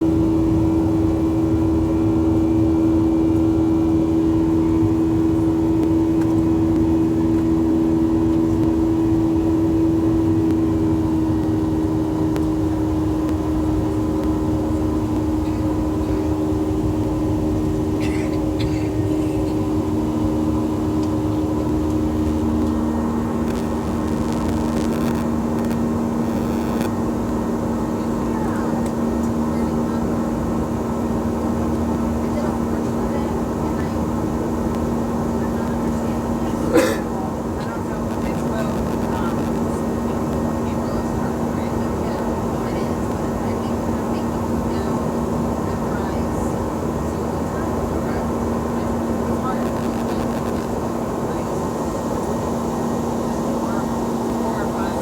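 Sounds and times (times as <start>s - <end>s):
vehicle interior drone: 0.0s - 55.0s.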